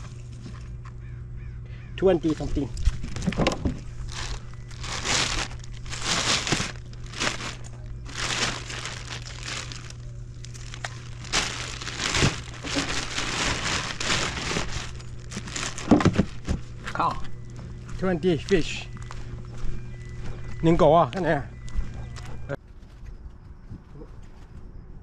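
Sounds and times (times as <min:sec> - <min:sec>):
steady low hum: 0:00.0 - 0:25.0
crinkling and rustling: 0:02.2 - 0:23.1.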